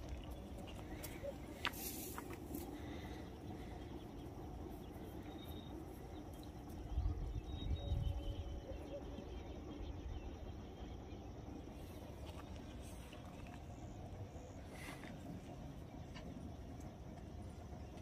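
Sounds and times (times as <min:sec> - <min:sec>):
faint bird chirps: 0:00.2 - 0:16.8.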